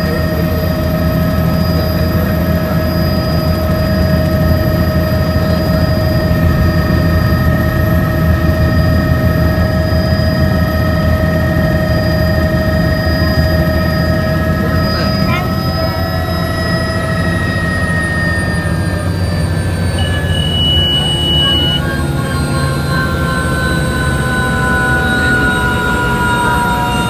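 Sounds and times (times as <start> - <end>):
helicopter rotor beat: 0.0 - 27.0
high whining tones: 0.0 - 27.0.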